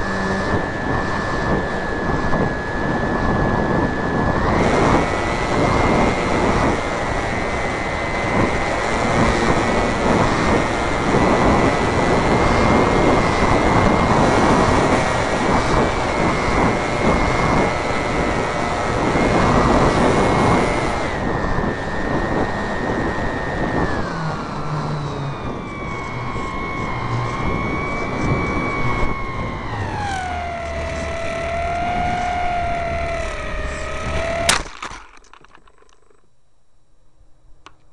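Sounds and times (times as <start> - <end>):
wind rushing over microphone: 0.0 - 34.7
model airplane motor whining: 0.0 - 36.2.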